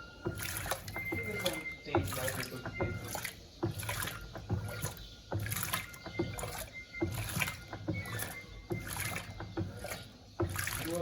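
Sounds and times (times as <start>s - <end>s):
washing machine control panel beeping: 0.0s - 11.0s
water sloshing: 0.0s - 11.0s.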